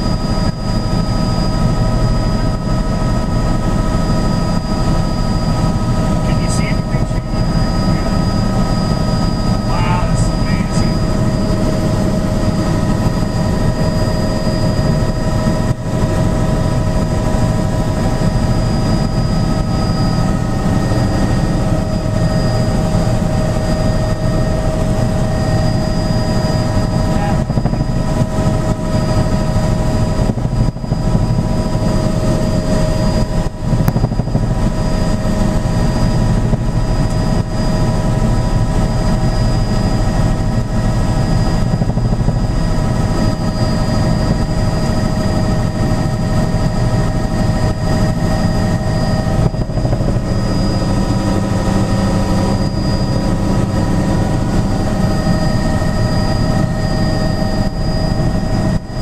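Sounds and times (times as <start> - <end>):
helicopter engine and rotor rumble: 0.0 - 59.0
helicopter engine whine: 0.0 - 59.0.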